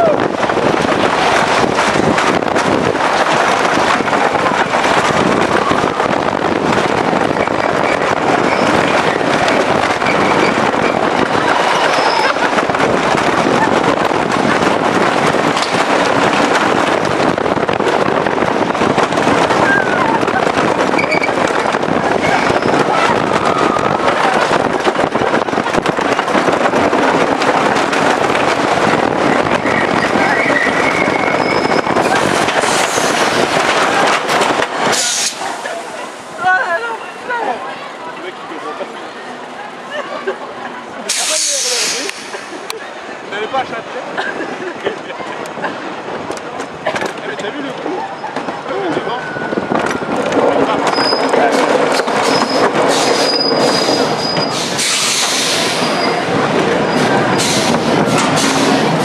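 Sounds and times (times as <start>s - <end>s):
wind rushing over microphone: 0.0s - 37.8s, 41.0s - 59.0s
roller coaster rattling on wooden track: 0.0s - 59.0s.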